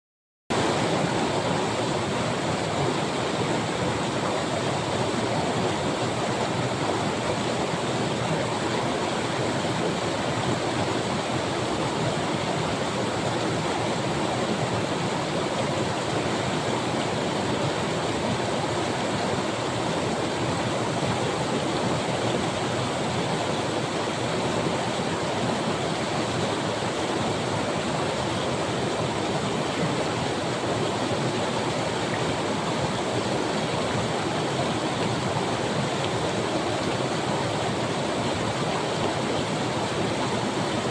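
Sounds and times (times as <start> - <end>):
river rushing over rocks: 0.5 - 40.9.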